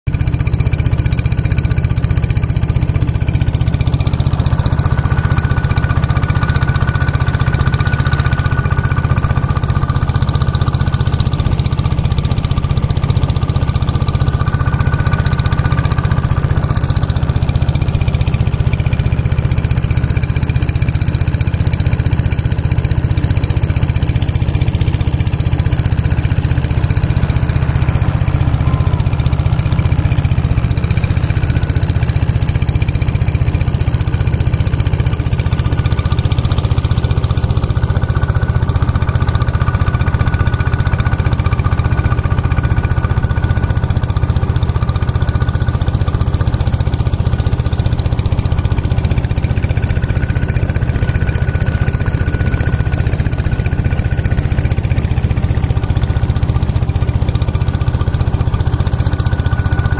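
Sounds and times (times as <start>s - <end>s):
boat engine droning: 0.1s - 59.9s.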